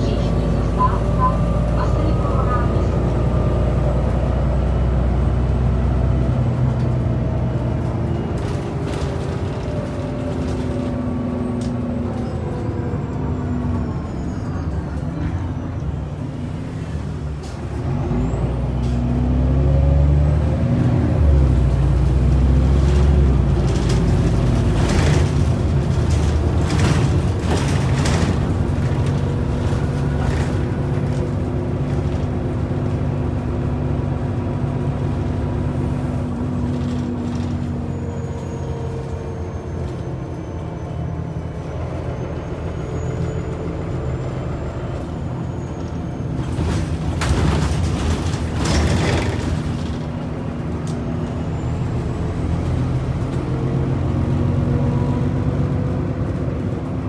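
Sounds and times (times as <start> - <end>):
bus body rattling: 0.0 - 19.7, 20.7 - 57.0
bus engine drone: 0.0 - 57.0.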